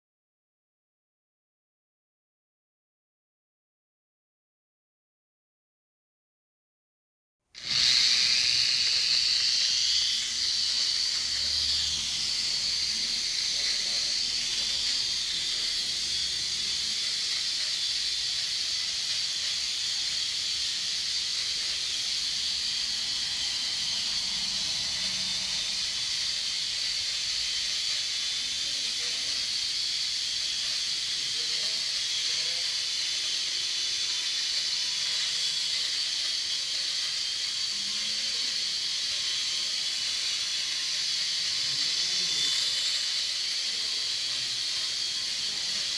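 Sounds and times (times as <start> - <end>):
small helicopter rotors whirring: 7.6 - 45.9.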